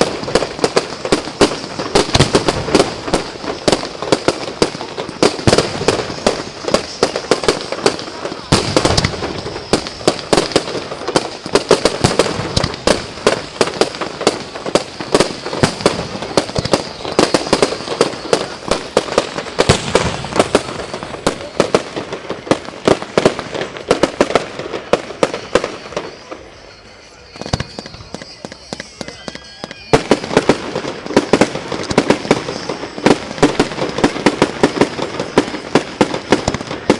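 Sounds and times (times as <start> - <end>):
fireworks bangs: 0.0 - 36.9.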